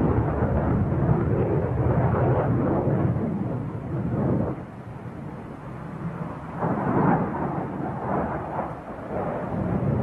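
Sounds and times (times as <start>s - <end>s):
jet aircraft flying overhead: 0.0s - 10.0s.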